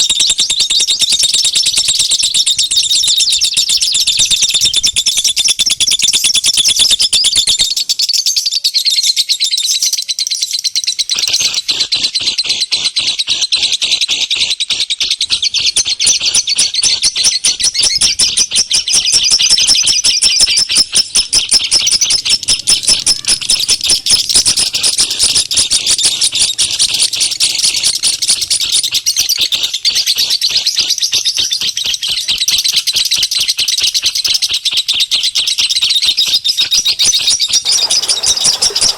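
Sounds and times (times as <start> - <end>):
small birds chirping rapidly: 0.0 - 38.9.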